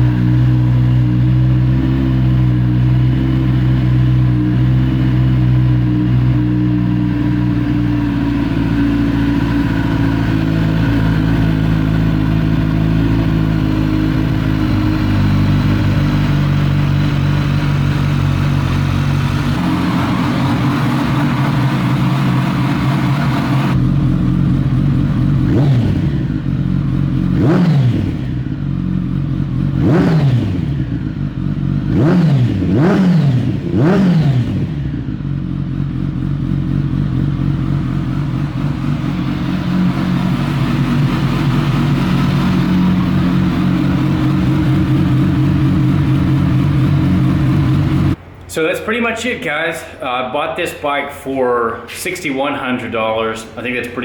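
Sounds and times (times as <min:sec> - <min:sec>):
motorcycle engine idling: 0:00.0 - 0:48.4
motorcycle throttle blips: 0:00.0 - 0:48.6.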